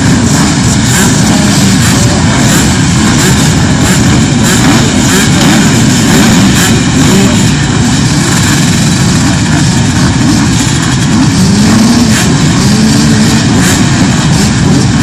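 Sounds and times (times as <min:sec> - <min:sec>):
motorcycles idling drone: 0:00.0 - 0:15.0.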